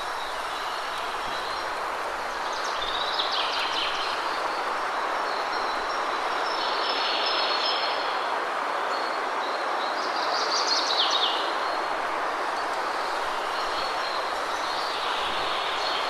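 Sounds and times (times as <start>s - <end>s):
waterfall rushing: 0.0s - 9.6s, 11.3s - 16.0s.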